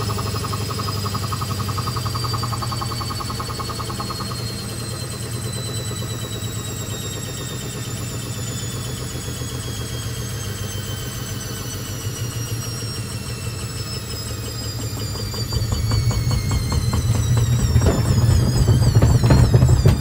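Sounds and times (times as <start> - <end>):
motor whine: 0.0 - 20.0
washing machine humming: 0.0 - 20.0.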